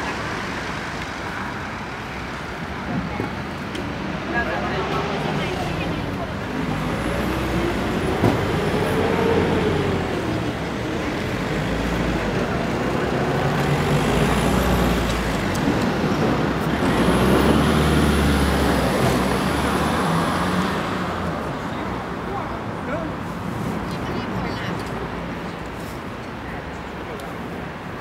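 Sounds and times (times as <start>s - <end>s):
road vehicles passing close: 0.0s - 28.0s.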